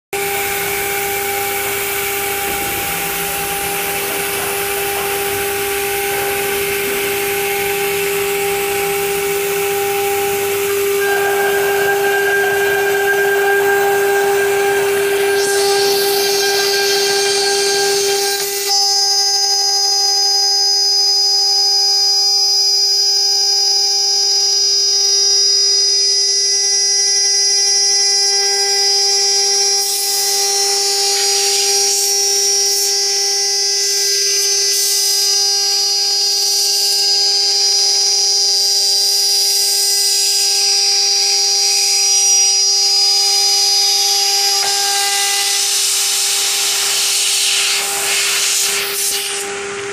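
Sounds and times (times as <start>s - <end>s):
router spindle high-pitched whine: 0.2s - 49.9s.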